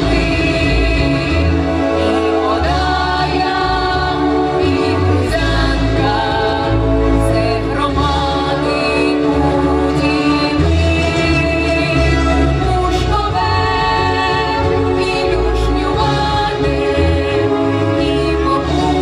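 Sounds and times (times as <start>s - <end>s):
choir singing: 0.0s - 19.0s
instrumental backing with bass: 0.0s - 19.0s.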